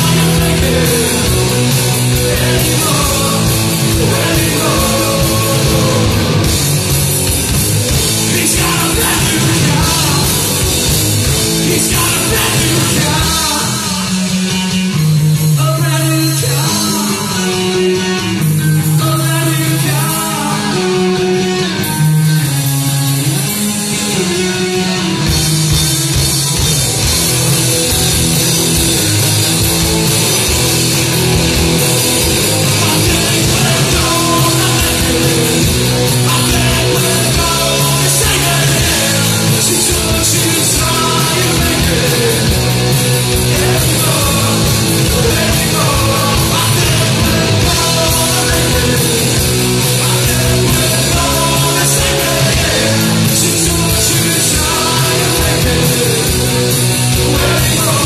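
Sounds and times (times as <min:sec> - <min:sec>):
drums: 0:00.0 - 0:58.0
electric guitars: 0:00.0 - 0:58.0.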